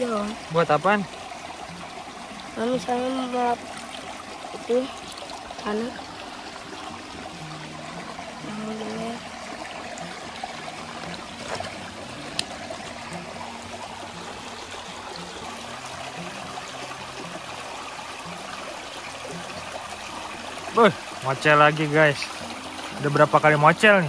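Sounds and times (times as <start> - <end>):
river water running: 0.0 - 24.0.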